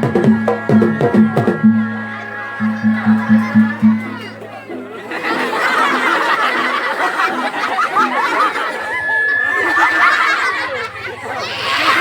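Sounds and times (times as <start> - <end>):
audience laughing: 0.0 - 12.0
people chattering: 0.0 - 12.0.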